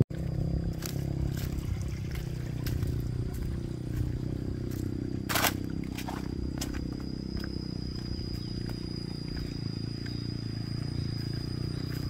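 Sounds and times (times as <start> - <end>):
footsteps on a path: 0.0 - 12.0
steady low rumble: 0.0 - 12.0.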